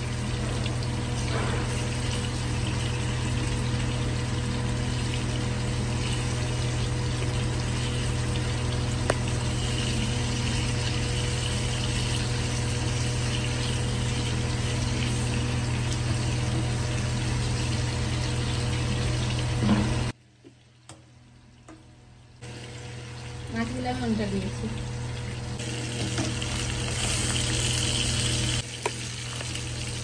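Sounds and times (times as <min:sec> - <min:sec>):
prawns sizzling in hot oil: 0:00.0 - 0:20.2, 0:22.4 - 0:30.0.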